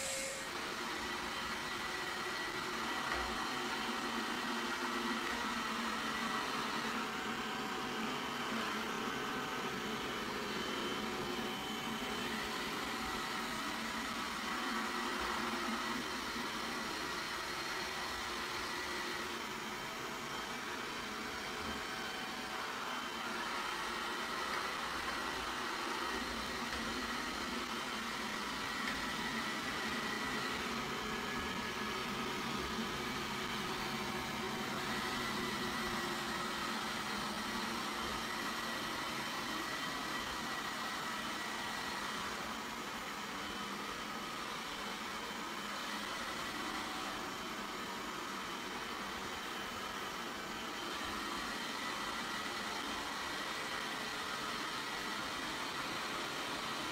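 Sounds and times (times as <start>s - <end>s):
robot vacuum cleaner whirring: 0.0s - 56.9s.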